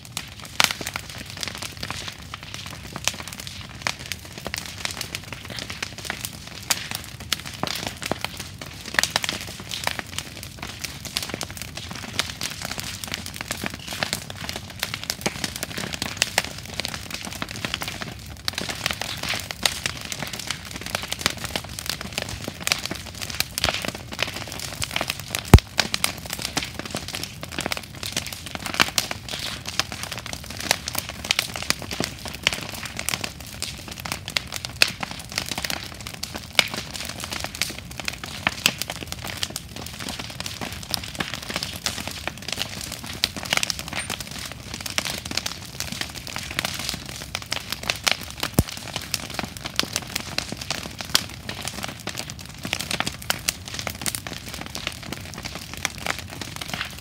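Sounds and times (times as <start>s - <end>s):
bonfire crackling and popping: 0.0s - 57.0s.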